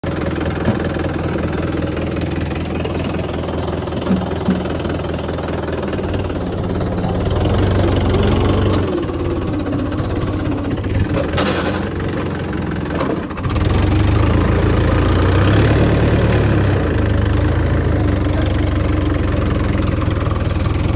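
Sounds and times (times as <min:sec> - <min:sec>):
tractor diesel engine clattering: 0:00.0 - 0:20.9.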